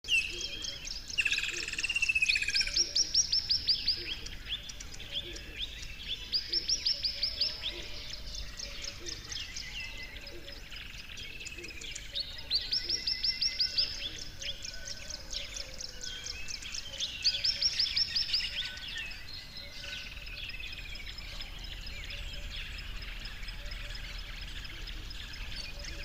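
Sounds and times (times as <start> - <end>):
songbirds singing and chirping: 0.0 - 26.0.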